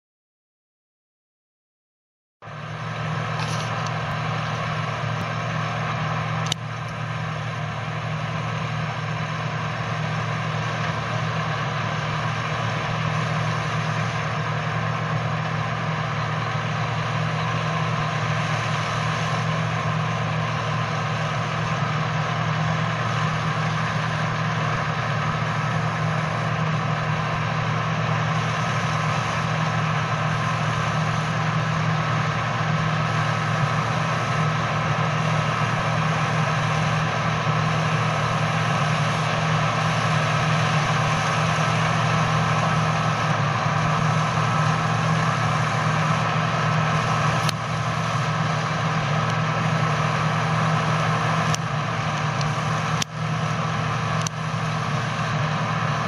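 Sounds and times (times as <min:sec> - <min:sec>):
combine harvester drone: 0:02.4 - 0:56.0.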